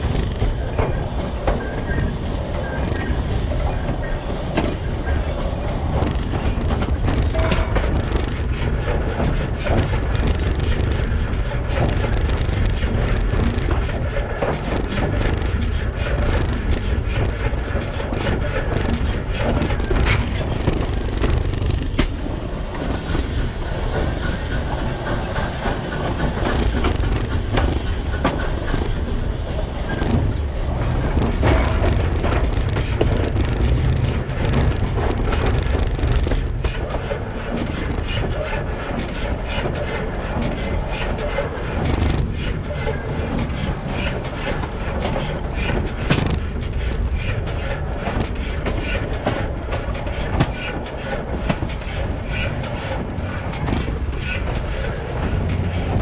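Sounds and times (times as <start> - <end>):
train cars rumbling past: 0.0 - 56.0
wheels clicking over rail joints: 0.0 - 56.0.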